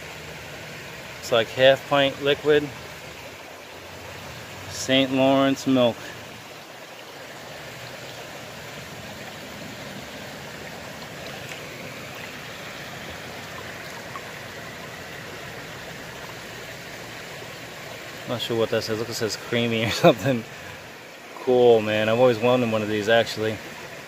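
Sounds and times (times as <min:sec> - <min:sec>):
creek water flowing over rocks: 0:00.0 - 0:24.0.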